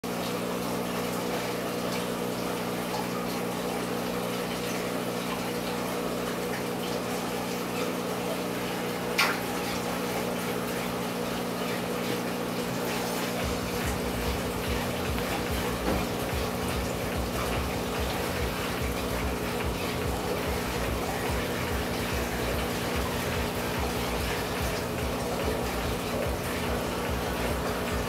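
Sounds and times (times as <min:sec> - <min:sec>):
aquarium pump hum: 0:00.0 - 0:28.0
water rushing: 0:00.0 - 0:28.0.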